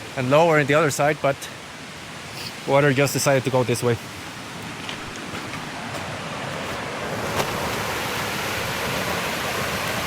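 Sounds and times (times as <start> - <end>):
stream rushing water: 0.0 - 10.0.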